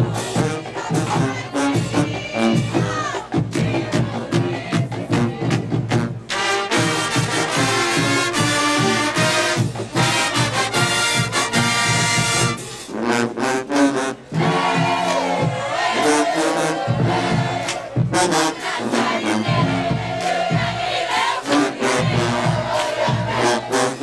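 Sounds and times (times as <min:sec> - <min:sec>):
marching band brass playing: 0:00.0 - 0:24.0.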